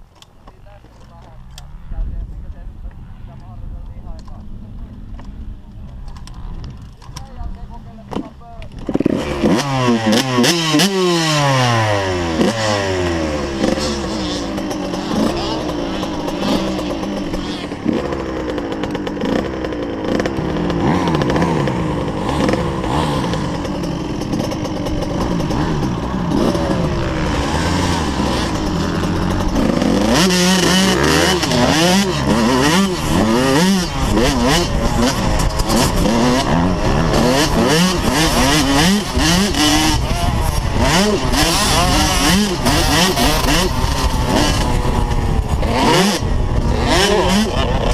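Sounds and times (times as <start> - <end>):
dirt bike engine revving: 4.4 - 47.9.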